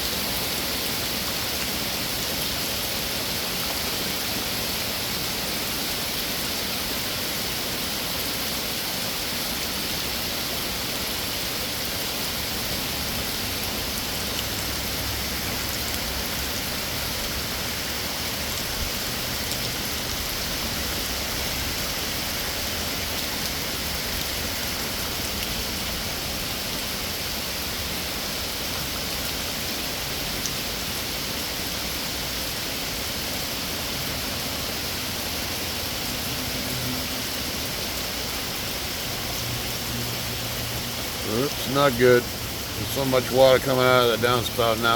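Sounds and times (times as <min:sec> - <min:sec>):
heavy rain hiss: 0:00.0 - 0:44.9.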